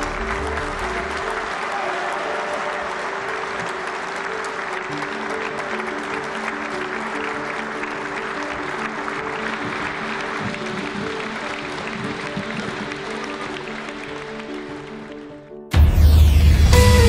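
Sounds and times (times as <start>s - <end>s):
crowd applauding: 0.0s - 15.8s
instrumental music with held notes: 3.2s - 17.0s.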